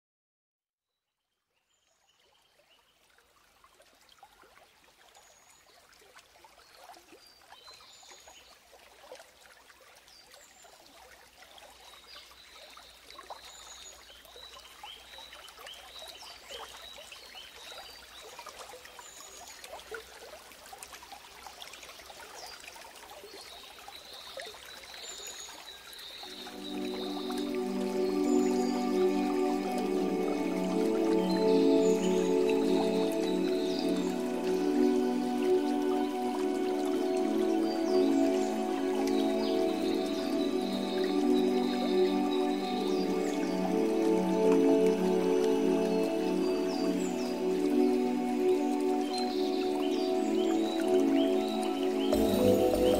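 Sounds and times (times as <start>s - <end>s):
trickling dripping water: 2.2s - 52.9s.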